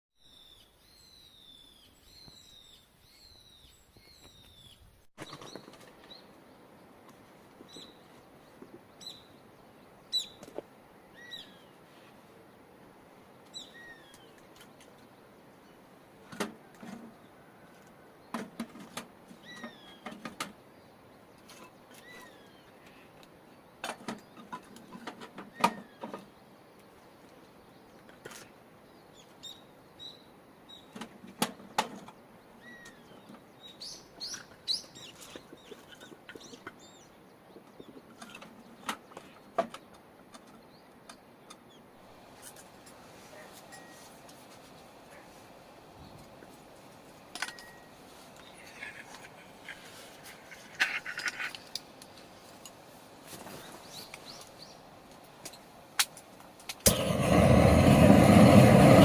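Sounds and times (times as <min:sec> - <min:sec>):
small birds chirping: 0:00.2 - 0:16.0, 0:16.7 - 0:55.8.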